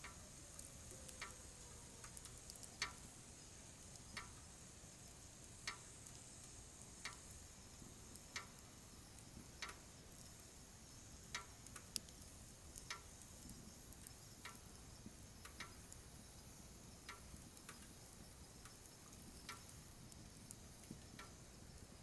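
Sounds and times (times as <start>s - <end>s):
faint steady hiss: 0.0s - 22.0s
wood fire crackling: 0.0s - 22.0s.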